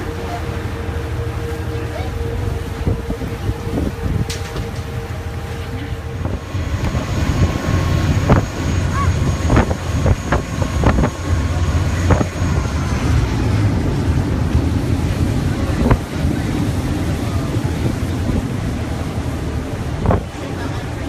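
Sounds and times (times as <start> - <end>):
boat engine rumble: 0.0 - 21.0
wind buffeting microphone: 1.8 - 21.0.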